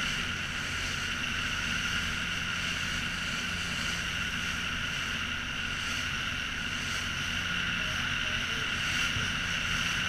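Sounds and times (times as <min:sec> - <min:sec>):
high engine whine: 0:00.0 - 0:10.0
motorboat engine droning: 0:00.0 - 0:10.0.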